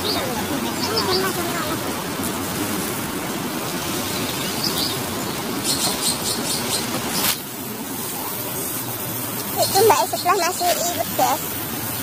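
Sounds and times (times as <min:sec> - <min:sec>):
city park background noise: 0:00.0 - 0:12.0.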